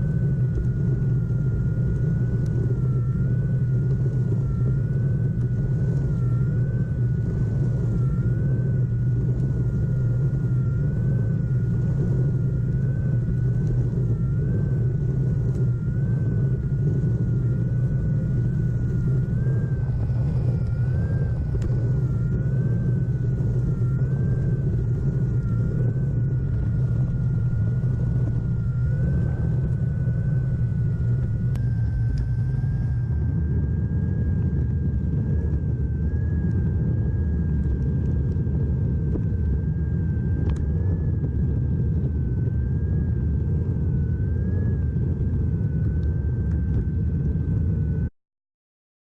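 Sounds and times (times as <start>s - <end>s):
electric motor whine: 0.0s - 48.1s.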